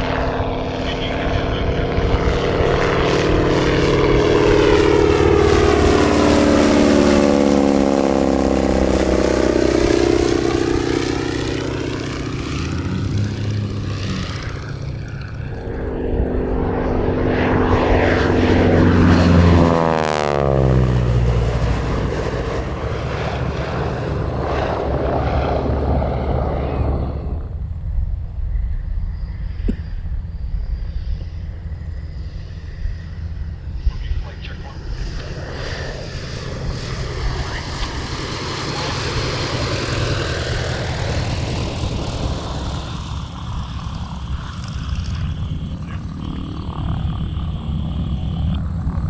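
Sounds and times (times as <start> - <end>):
propeller plane flying past: 0.0 - 49.0.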